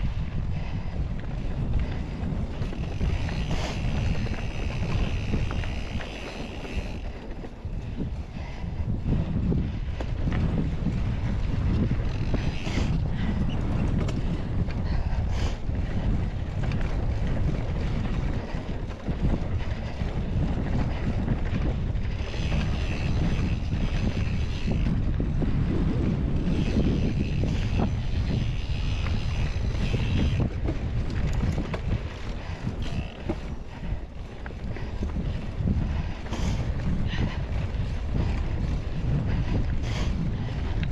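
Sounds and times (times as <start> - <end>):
bike clicks and rattles: 0.0 - 40.9
wind rushing over microphone: 0.0 - 40.9.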